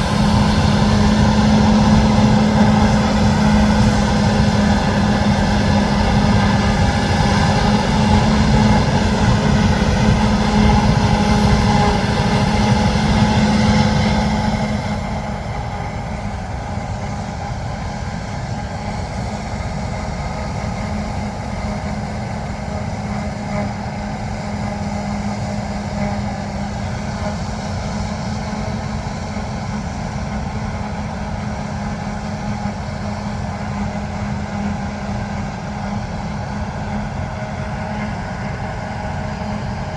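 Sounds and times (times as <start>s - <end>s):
harvest machinery running: 0.0s - 39.9s.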